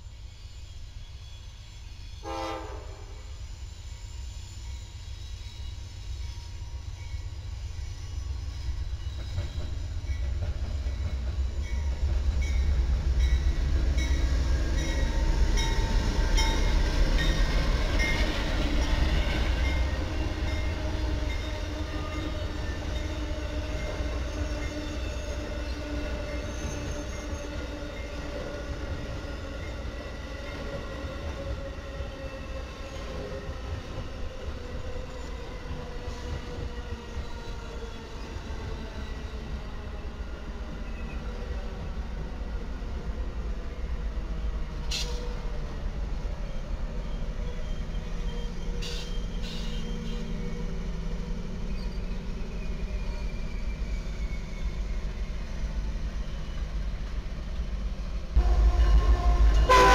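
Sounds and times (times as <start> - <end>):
train rumbling past: 0.0 - 59.9
wheels squealing on rails: 0.0 - 59.9.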